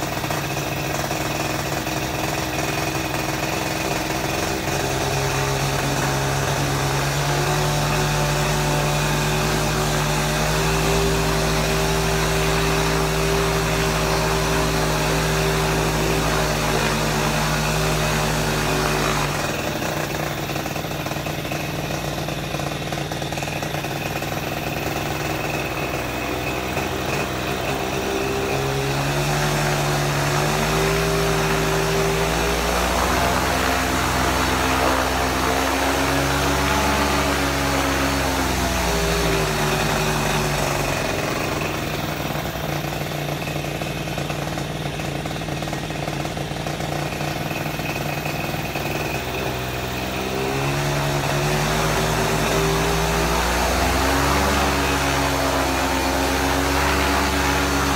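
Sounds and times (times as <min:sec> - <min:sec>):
paramotor engine and propeller running: 0:00.0 - 0:57.9.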